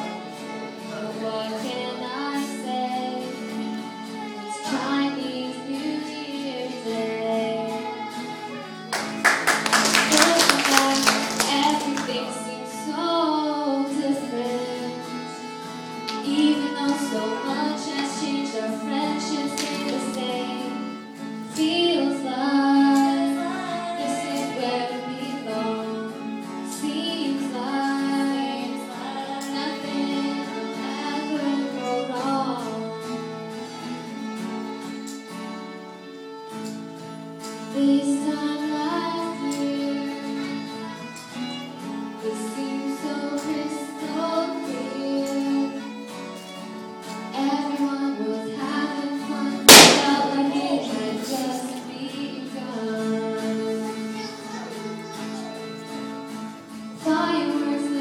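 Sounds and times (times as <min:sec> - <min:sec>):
woman singing: 0:00.0 - 0:34.0, 0:37.6 - 0:41.1, 0:42.1 - 0:46.3, 0:47.0 - 0:54.2, 0:57.0 - 0:58.0
acoustic guitar: 0:00.0 - 0:58.0
violin melody: 0:00.0 - 0:58.0.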